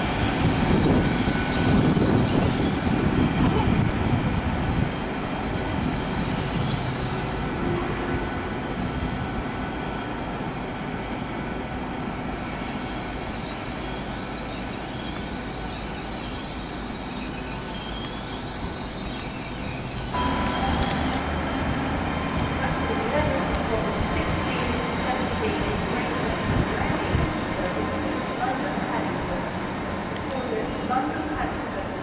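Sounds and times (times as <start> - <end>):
train rumbling: 0.0 - 32.0.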